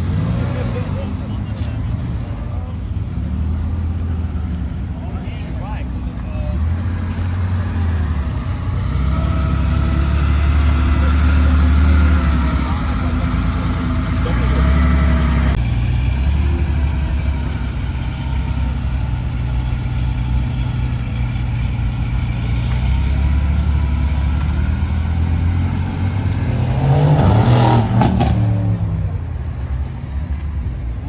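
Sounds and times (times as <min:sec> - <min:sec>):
car engines rumbling: 0:00.0 - 0:31.0.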